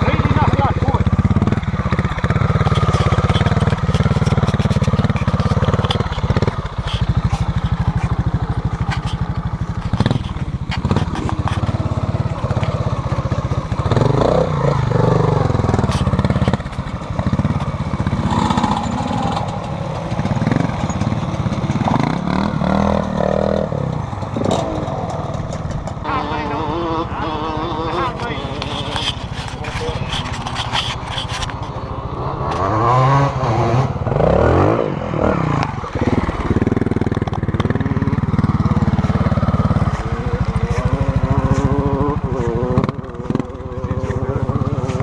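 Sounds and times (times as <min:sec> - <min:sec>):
motorcycle engine idling: 0:00.0 - 0:32.8, 0:35.7 - 0:45.0.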